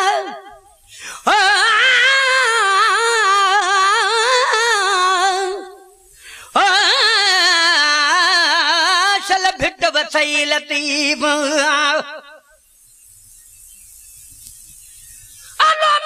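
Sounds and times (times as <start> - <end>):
person singing unaccompanied: 0.0 - 12.6, 15.4 - 16.0.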